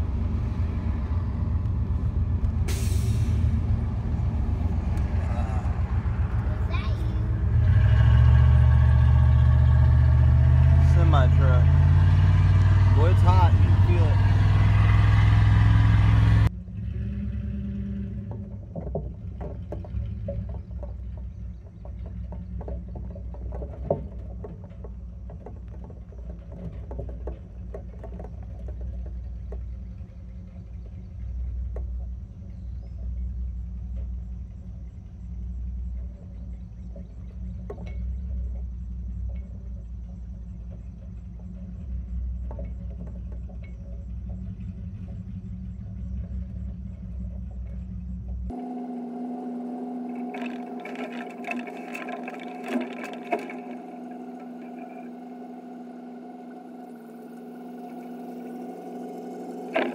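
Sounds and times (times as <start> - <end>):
low road rumble: 0.0 - 59.9
boat rattling on trailer: 3.4 - 16.2, 17.8 - 48.7, 49.8 - 59.9.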